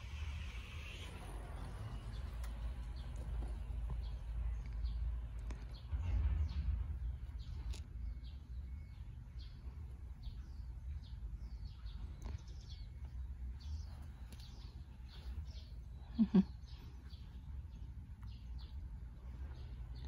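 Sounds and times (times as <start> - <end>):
low steady rumble: 0.0 - 20.0
small birds chirping: 0.0 - 20.0.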